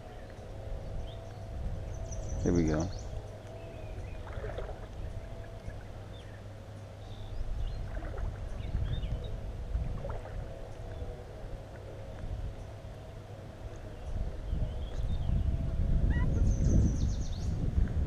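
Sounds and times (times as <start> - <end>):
faint bird calls: 0.0 - 17.6
wind rumbling on microphone: 0.0 - 18.0.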